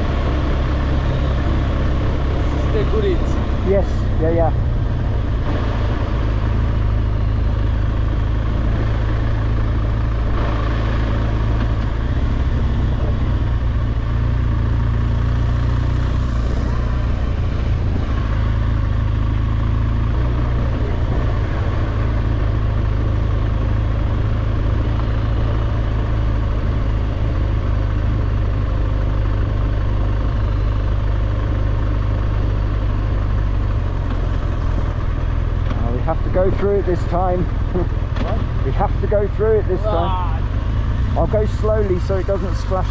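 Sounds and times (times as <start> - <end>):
road and wind noise: 0.0 - 42.9
vehicle engine droning: 0.0 - 42.9.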